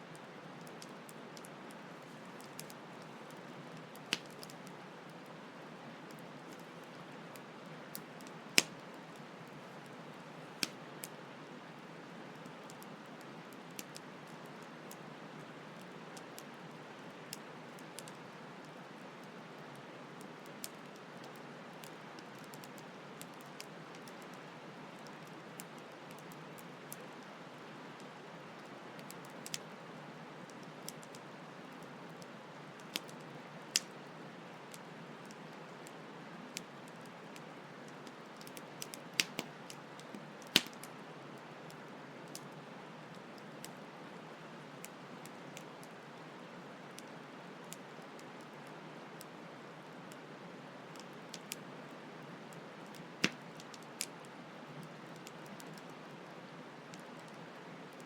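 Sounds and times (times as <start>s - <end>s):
campfire crackling and popping: 0.2s - 5.3s, 6.1s - 29.8s, 30.5s - 44.0s, 44.6s - 51.7s, 52.5s - 56.2s.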